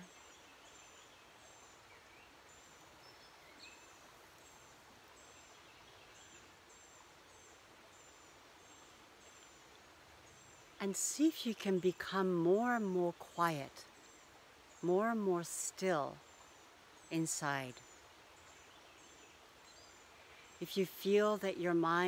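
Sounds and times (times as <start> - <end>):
soft even hiss: 0.0 - 22.0.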